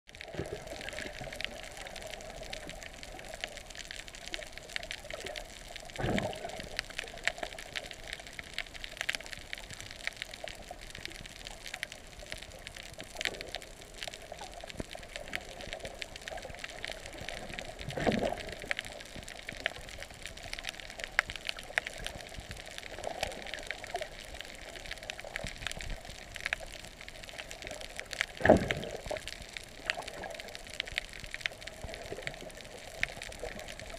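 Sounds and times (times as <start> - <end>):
fine crackle of clicks: 0.1 - 33.9
underwater water wash: 0.1 - 33.9.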